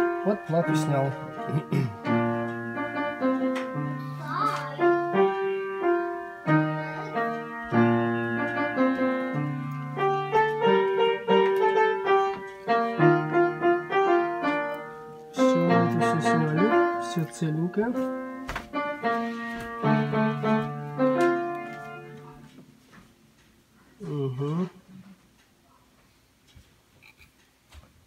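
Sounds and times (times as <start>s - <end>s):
piano music: 0.0s - 22.8s.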